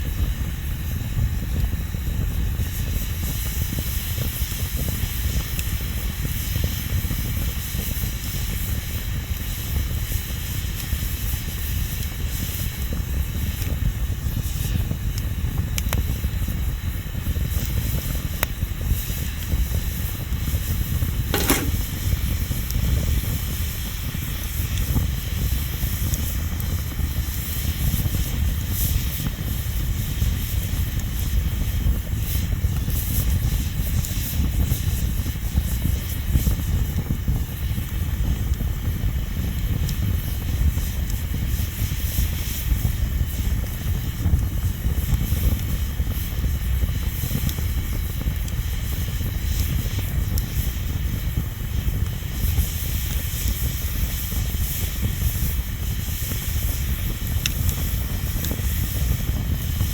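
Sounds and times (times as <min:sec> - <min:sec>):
bonfire flames rumbling: 0:00.0 - 0:20.6, 0:21.4 - 0:59.9
fire crackles: 0:00.0 - 0:59.9.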